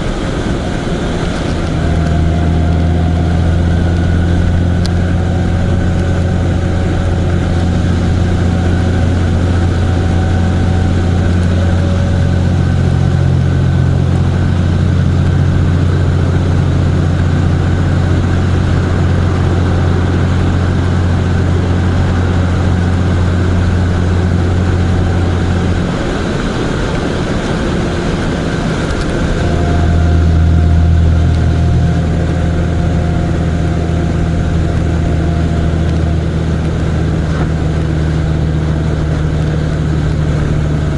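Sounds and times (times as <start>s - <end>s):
road and wind noise: 0.0s - 40.9s
vehicle engine running: 0.0s - 40.9s.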